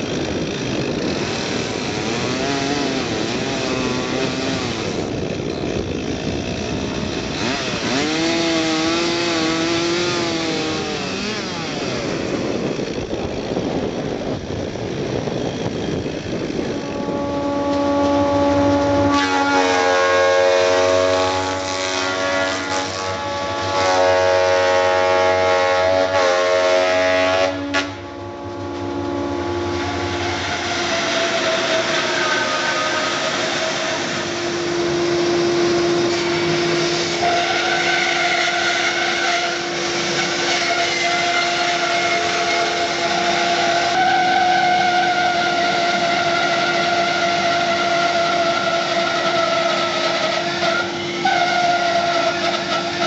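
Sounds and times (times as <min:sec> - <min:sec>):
bandsaw cutting wood: 0:00.0 - 0:28.2, 0:28.8 - 0:53.0
jointer planing wood: 0:00.0 - 0:53.0.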